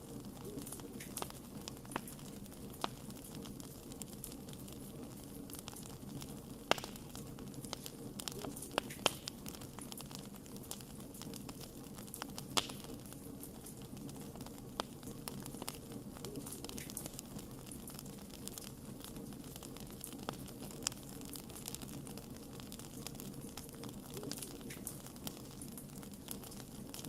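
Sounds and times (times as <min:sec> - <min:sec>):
campfire flame rushing: 0:00.0 - 0:27.0
fire crackling and popping: 0:00.0 - 0:27.0.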